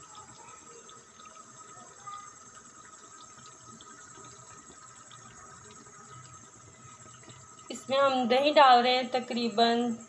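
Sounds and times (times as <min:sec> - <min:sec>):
oil bubbling and sizzling: 0:00.0 - 0:10.0.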